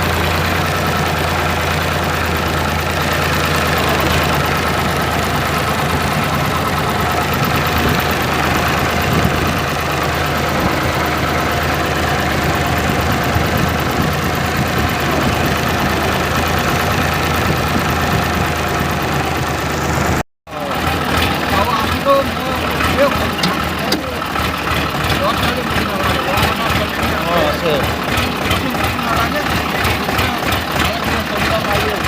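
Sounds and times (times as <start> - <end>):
tractor engine droning: 0.0 - 32.0.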